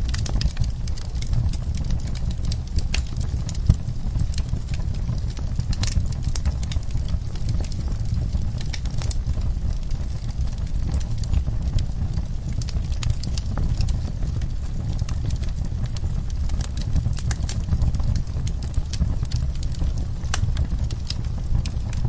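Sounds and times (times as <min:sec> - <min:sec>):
burning wood crackling and popping: 0:00.0 - 0:22.0
low rumble of flames: 0:00.0 - 0:22.0.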